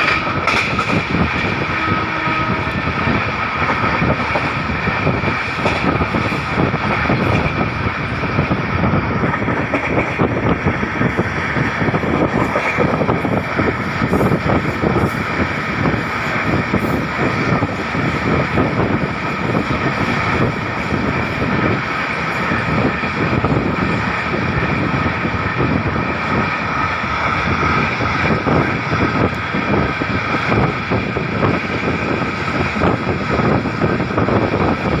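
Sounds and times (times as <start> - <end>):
train wheels rumbling and clattering: 0.0 - 35.0.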